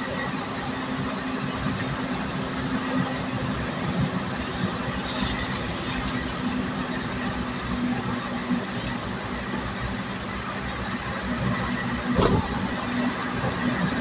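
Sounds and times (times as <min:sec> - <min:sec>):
vehicle engine and tyre noise: 0:00.0 - 0:14.0.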